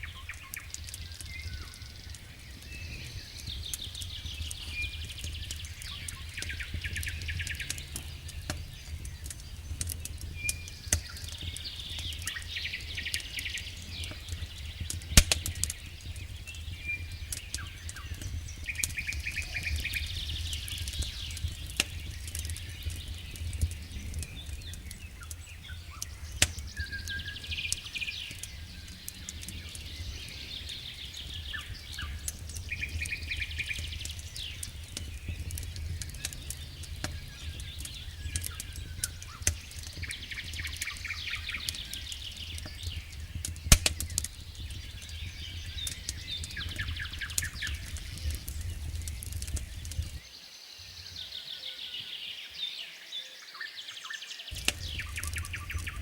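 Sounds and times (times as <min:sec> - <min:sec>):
high-pitched chirping crackle: 0:00.0 - 0:50.2, 0:54.5 - 0:56.0
wood fire crackling: 0:00.0 - 0:50.3, 0:54.5 - 0:56.0.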